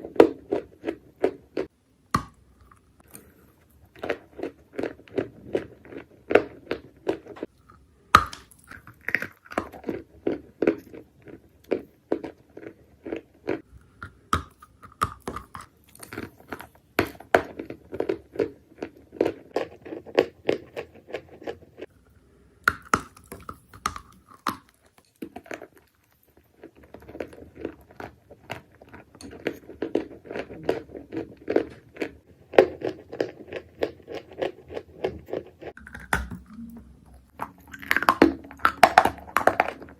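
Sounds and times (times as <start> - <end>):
crunching dry clay chewing: 0.0 - 39.9.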